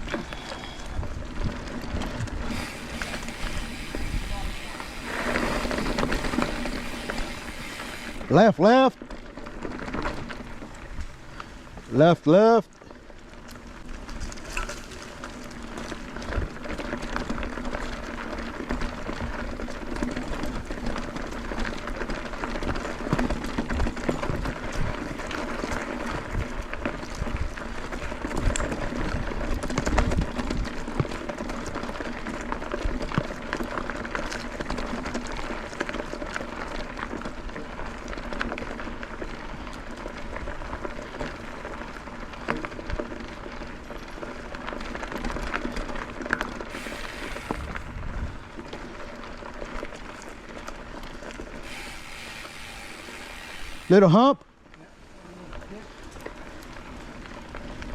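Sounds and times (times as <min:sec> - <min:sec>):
bike rattles and knocks: 0:00.0 - 0:54.3
tyre noise on dirt and gravel: 0:00.0 - 0:57.9.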